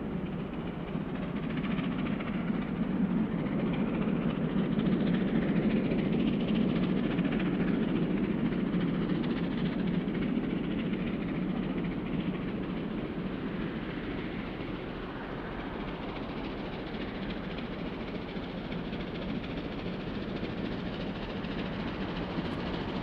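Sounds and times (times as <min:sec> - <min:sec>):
steam train rumbling: 0:00.0 - 0:23.0.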